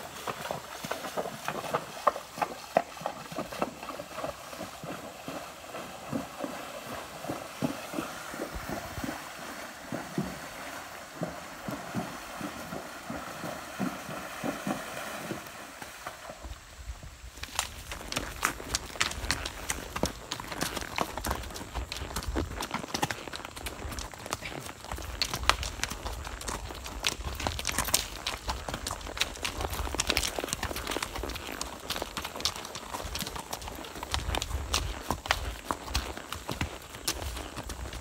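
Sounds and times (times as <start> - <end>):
hooves splashing through creek: 0.0 - 38.0.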